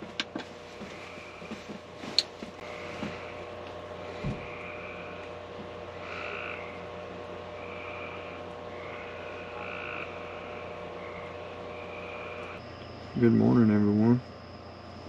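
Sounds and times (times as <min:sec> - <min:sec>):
fan and air conditioner hum: 0:00.0 - 0:15.0
frogs trilling: 0:00.8 - 0:01.6, 0:02.6 - 0:15.0.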